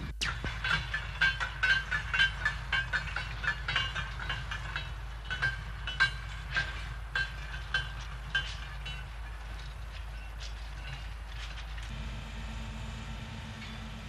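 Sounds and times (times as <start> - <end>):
low rumble of rolling wagon: 0.0 - 14.0
metallic train wheel clicks: 0.3 - 12.0.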